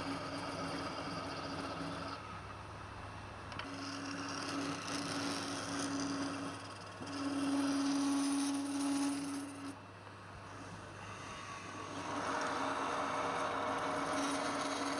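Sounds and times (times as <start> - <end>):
turning tool cutting wood: 0.0 - 2.2, 3.6 - 9.8, 10.6 - 14.9
wood lathe humming: 0.0 - 2.2, 3.5 - 9.8, 10.4 - 14.9.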